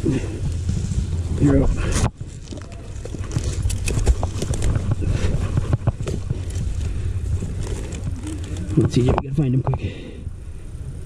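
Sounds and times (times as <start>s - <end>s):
gear brushing and tapping: 0.4s - 9.9s.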